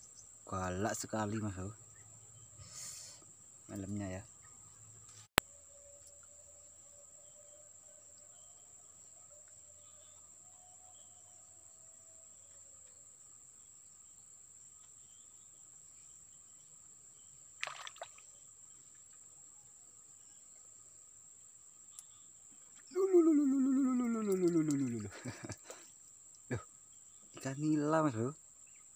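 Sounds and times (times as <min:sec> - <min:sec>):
faint outdoor ambience: 0:00.0 - 0:28.9
insects buzzing: 0:00.0 - 0:28.9.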